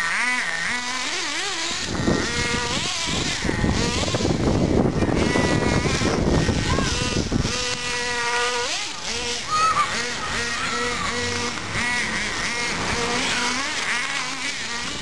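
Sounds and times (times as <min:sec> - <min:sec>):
radio-controlled car motor whining: 0:00.0 - 0:15.0.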